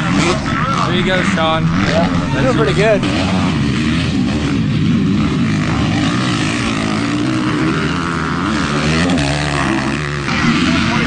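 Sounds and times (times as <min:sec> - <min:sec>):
dirt bike engines racing: 0:00.0 - 0:11.0.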